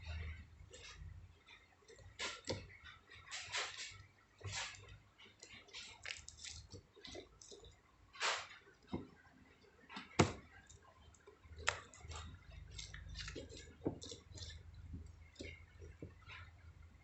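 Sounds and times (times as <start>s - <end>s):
faint low hum: 0.0s - 17.0s
small objects clicking and tapping: 0.0s - 17.0s.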